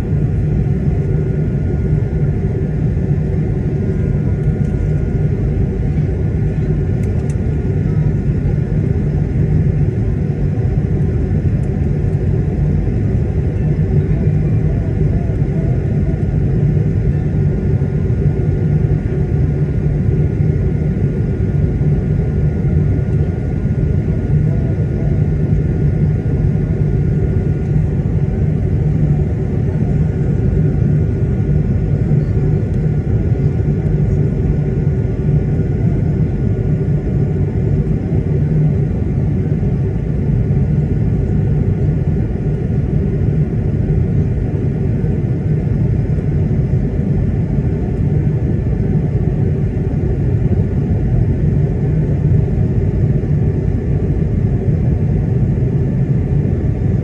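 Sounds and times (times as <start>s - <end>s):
jet engine roar in cabin: 0.0s - 57.0s.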